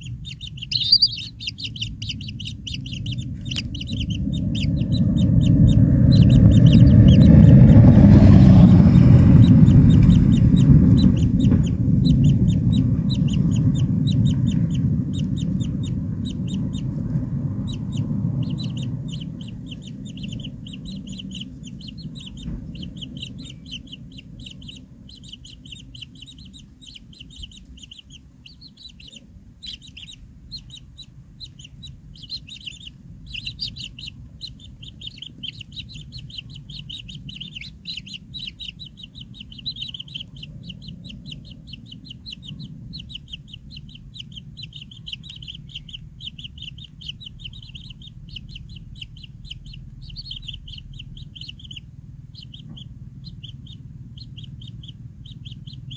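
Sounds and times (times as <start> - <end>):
low rumble: 0.0 - 55.9
nestlings chirping: 0.0 - 55.9.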